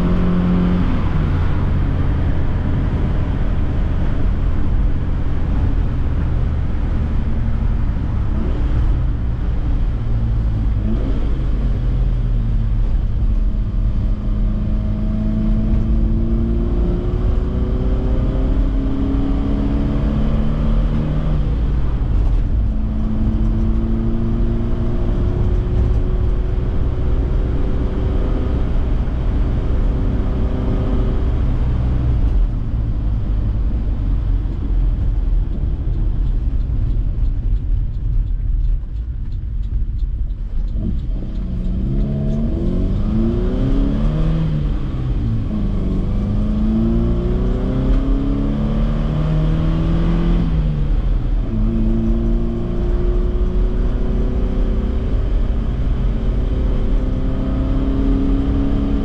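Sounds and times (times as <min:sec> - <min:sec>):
car engine from inside cabin: 0:00.0 - 0:59.0
road noise: 0:00.0 - 0:59.0.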